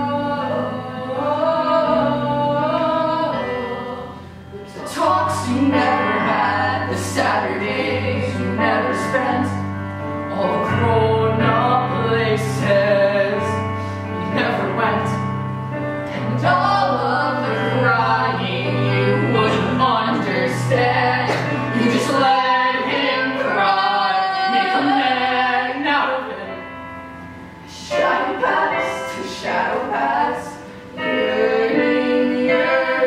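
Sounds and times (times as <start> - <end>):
stage musical singing: 0.0 - 26.8, 27.4 - 33.0
instrumental accompaniment: 0.0 - 33.0.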